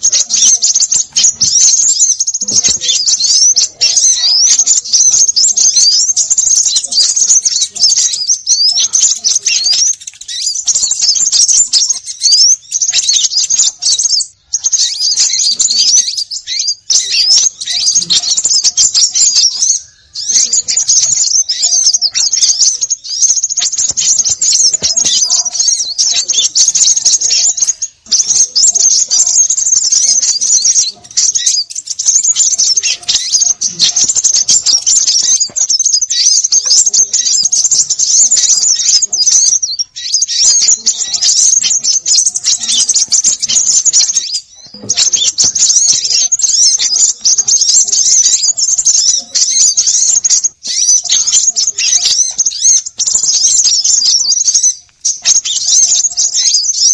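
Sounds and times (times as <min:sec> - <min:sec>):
small birds chattering and chirping: 0:00.0 - 0:56.9.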